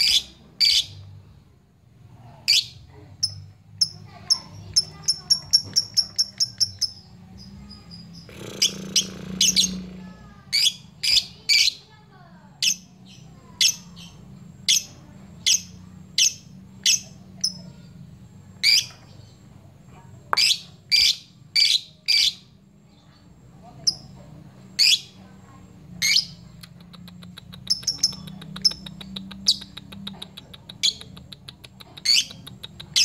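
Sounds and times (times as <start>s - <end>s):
lovebird chirping: 0.0s - 1.2s, 2.5s - 11.9s, 12.6s - 17.9s, 18.6s - 19.5s, 20.3s - 24.2s, 24.8s - 25.2s, 26.0s - 33.0s.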